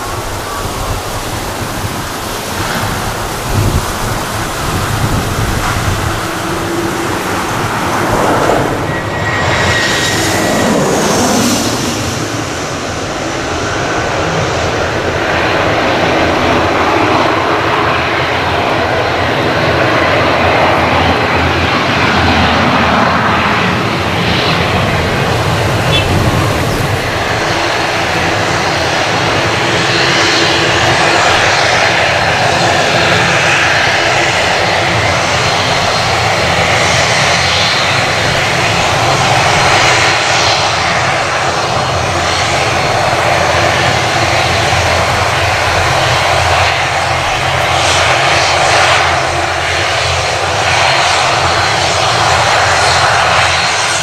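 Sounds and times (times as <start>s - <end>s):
turboprop engines droning: 0.0s - 54.0s.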